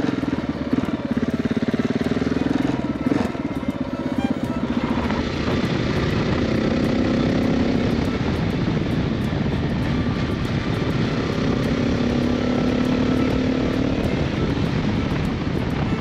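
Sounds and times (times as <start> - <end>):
motorcycle engine cruising: 0.0 - 16.0
road and wind noise: 0.0 - 16.0.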